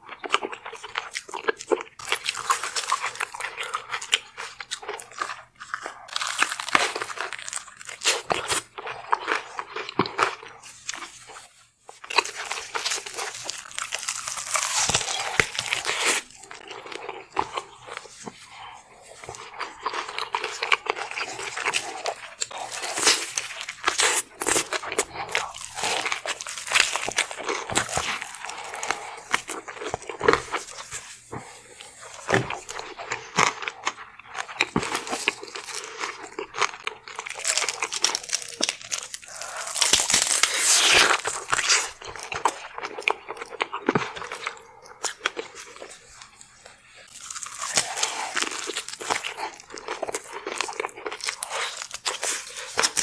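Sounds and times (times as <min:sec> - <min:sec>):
person crunching and chewing: 0:00.0 - 0:53.0.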